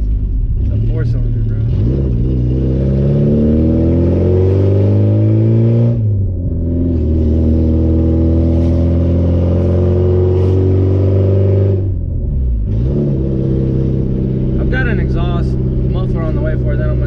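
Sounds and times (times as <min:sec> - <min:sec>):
loud car engine accelerating: 0:00.0 - 0:17.0.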